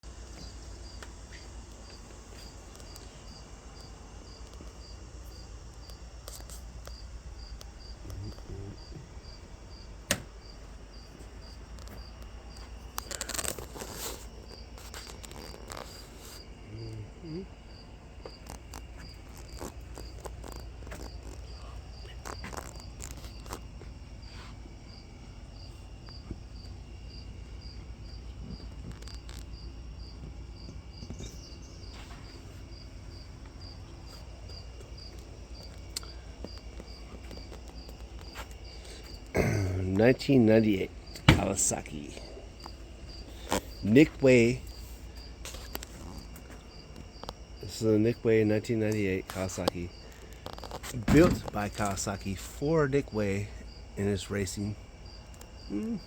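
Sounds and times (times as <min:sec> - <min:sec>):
cricket chirping: 0:00.0 - 0:56.0
low steady hum: 0:00.0 - 0:56.0.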